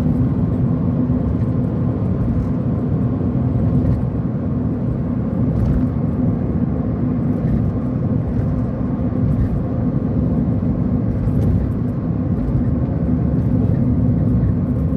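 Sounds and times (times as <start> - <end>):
car road noise inside cabin: 0.0 - 14.9.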